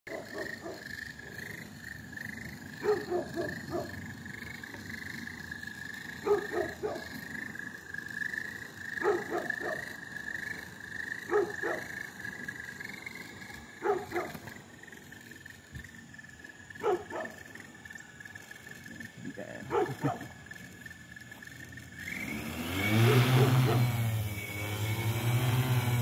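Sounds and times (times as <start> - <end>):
high wavering whine: 0.1 - 26.0.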